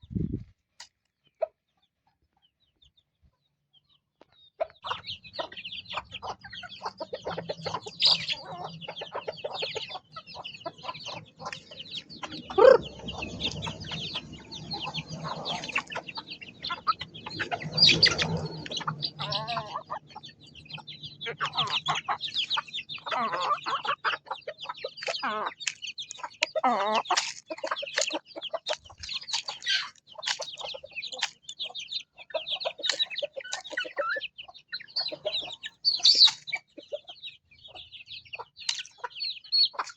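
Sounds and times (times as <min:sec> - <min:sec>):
chickens clucking: 0:01.2 - 0:39.9.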